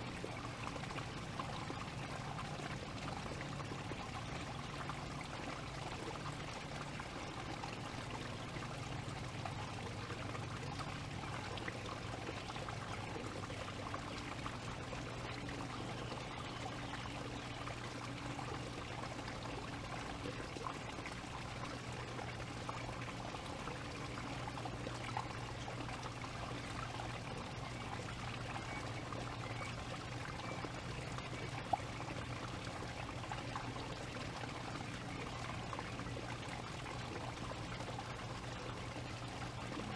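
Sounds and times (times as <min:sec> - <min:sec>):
low steady hum: 0:00.0 - 0:39.9
rushing water-like noise: 0:00.0 - 0:39.9.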